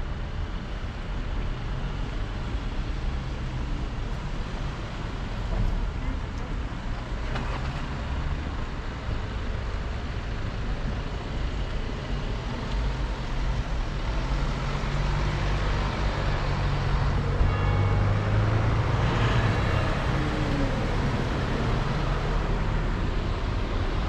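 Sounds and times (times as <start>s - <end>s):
cars driving past on wet street: 1.9s - 24.0s.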